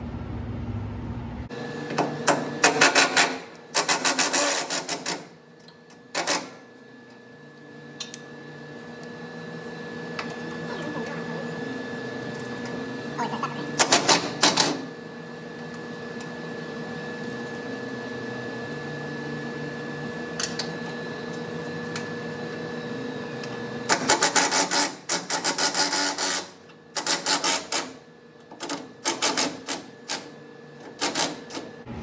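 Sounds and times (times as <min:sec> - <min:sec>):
low shop hum: 0:00.0 - 0:32.0.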